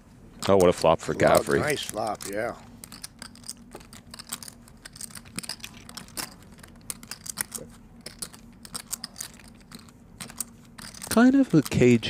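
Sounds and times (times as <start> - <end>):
poker chips clicking: 0.4 - 12.0.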